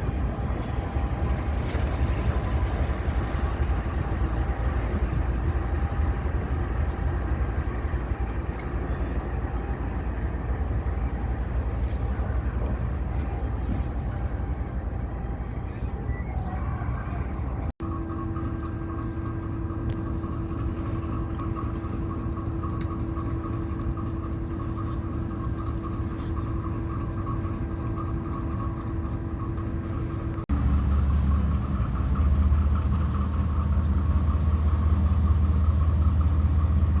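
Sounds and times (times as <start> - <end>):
deep engine drone: 0.0 - 37.0
diesel locomotive engine humming: 0.0 - 37.0.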